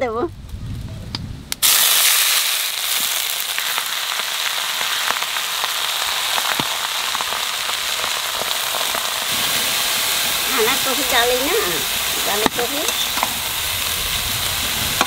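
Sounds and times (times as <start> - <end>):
light crackles: 0.3 - 15.0
cabbage sizzling in oil: 1.6 - 15.0.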